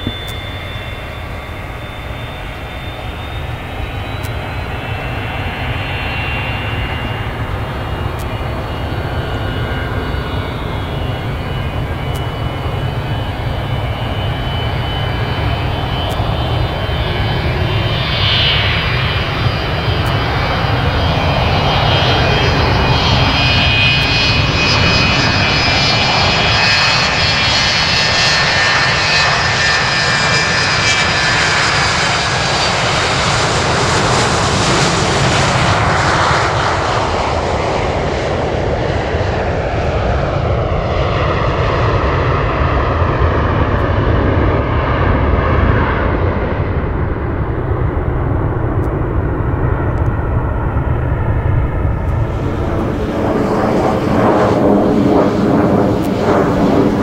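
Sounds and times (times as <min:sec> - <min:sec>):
jet engines roaring with whine: 0:00.0 - 0:57.0.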